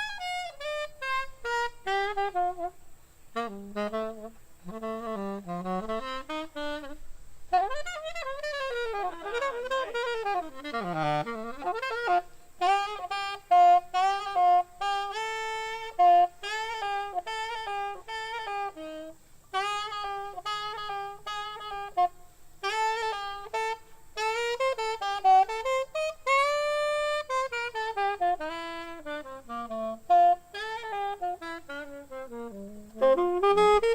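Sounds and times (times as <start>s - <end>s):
saxophone jazz solo: 0.0s - 33.9s.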